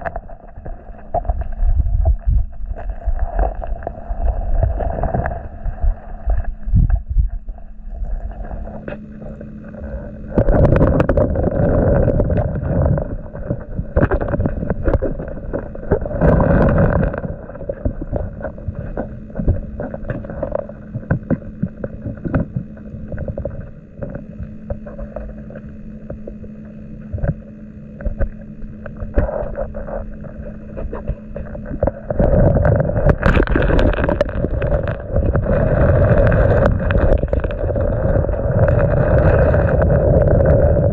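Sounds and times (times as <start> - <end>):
river current underwater: 0.0 - 40.9.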